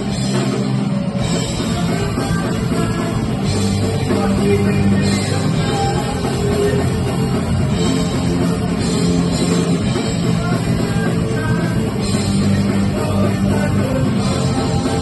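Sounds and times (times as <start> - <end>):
drums: 0.0 - 15.0
electric guitars: 0.0 - 15.0.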